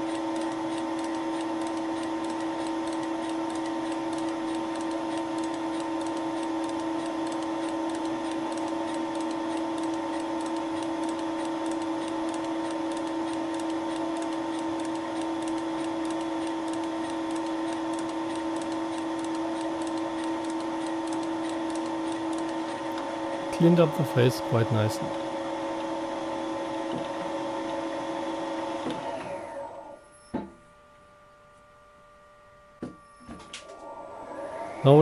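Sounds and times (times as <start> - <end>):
milling machine hum: 0.0 - 35.0.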